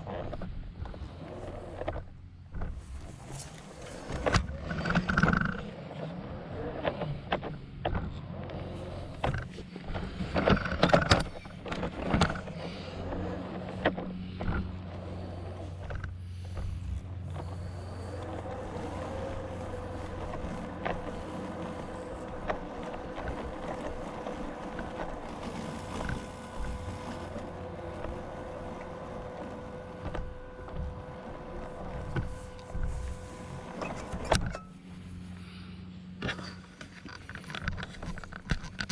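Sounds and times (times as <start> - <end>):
small motor humming and whining: 0.0 - 38.9.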